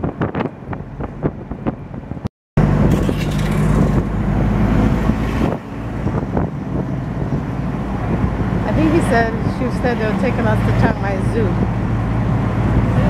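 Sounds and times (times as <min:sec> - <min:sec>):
road noise: 0:00.0 - 0:13.0
truck engine: 0:00.0 - 0:13.0
wind buffeting microphone: 0:00.0 - 0:13.0.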